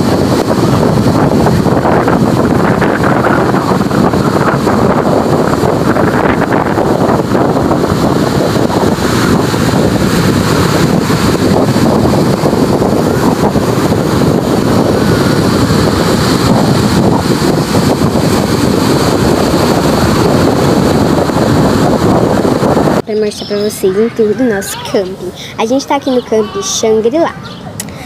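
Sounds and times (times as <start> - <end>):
ocean surf breaking: 0.0 - 28.0
wind rushing over microphone: 0.0 - 28.0.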